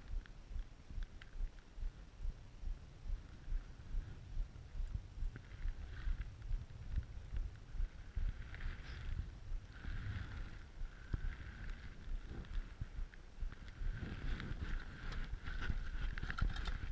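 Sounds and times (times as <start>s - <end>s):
wind rumbling on microphone: 0.0s - 16.9s.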